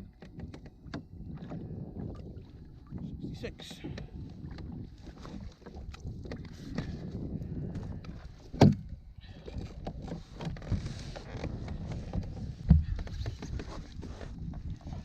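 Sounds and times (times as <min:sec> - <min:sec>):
gear clattering on a kayak: 0:00.0 - 0:15.0.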